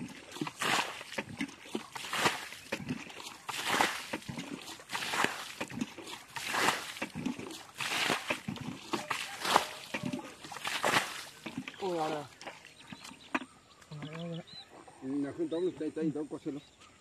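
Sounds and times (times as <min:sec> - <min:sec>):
water splashing in mud: 0:00.0 - 0:14.5.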